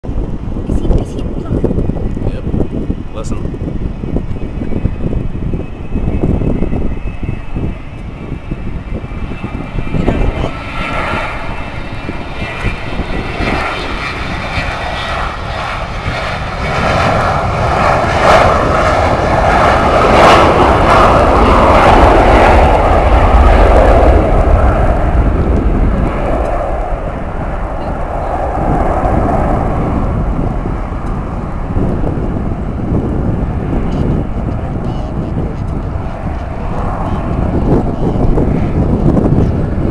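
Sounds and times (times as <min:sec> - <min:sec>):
jet airliner taking off: 0:00.0 - 0:39.9.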